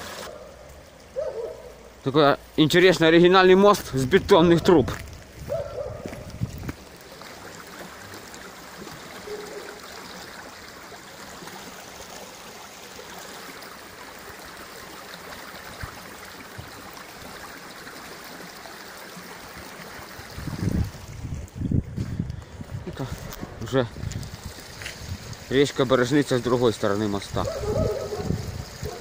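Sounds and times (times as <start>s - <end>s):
water rushing through pipes: 0.0s - 29.0s.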